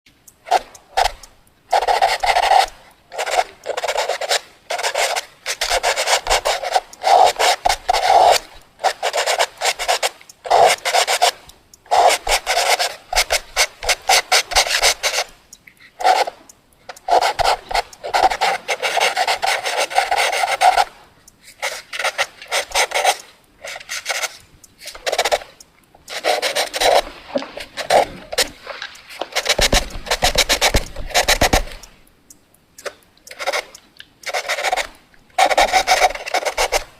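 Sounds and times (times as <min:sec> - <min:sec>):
drawing strokes scratching: 0:00.5 - 0:15.4, 0:16.0 - 0:32.0, 0:32.8 - 0:36.9.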